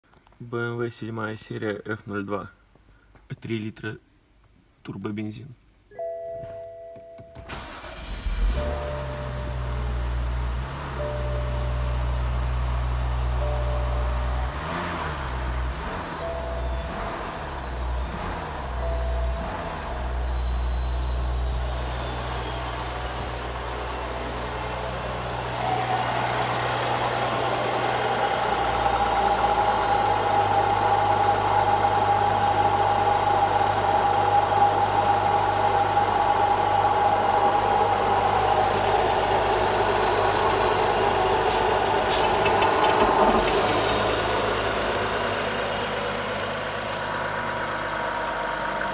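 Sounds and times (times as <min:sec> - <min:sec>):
car engine running: 0:07.5 - 0:48.9.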